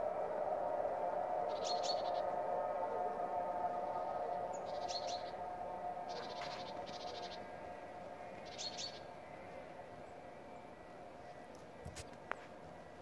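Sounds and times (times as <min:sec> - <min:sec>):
steady hum: 0:00.0 - 0:11.3.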